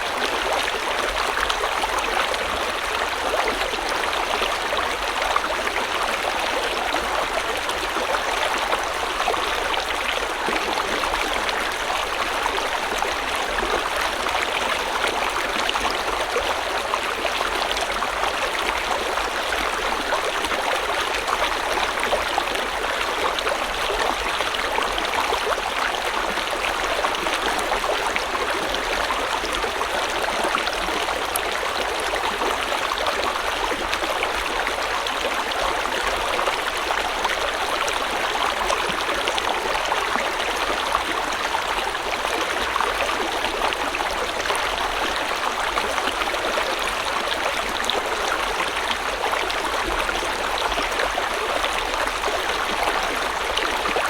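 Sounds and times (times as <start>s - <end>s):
stream rushing and babbling: 0.0s - 54.0s.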